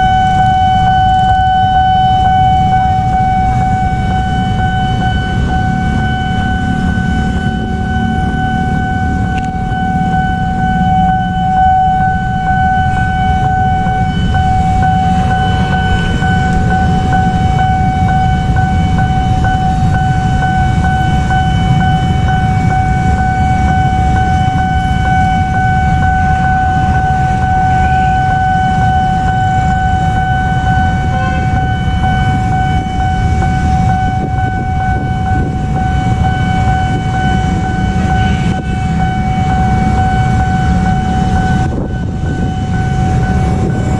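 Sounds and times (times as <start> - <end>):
level crossing alarm tone: 0.0 - 43.9
low rumble: 0.0 - 43.9.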